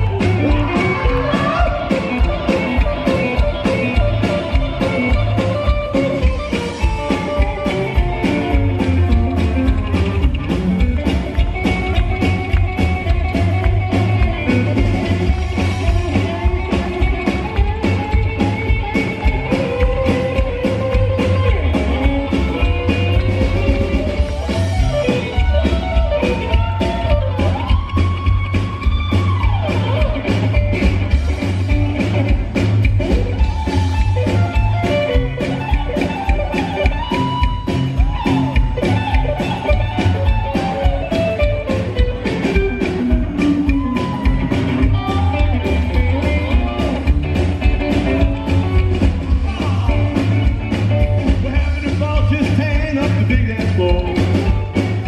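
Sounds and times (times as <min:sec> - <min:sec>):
electric guitar lead line: 0:00.0 - 0:55.0
pulsing bass line: 0:00.0 - 0:55.0
steady drum beat: 0:00.0 - 0:55.0.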